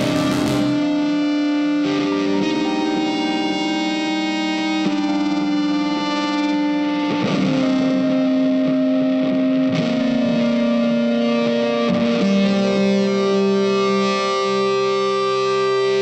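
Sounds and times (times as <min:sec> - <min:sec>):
guitar background music: 0:00.0 - 0:16.0.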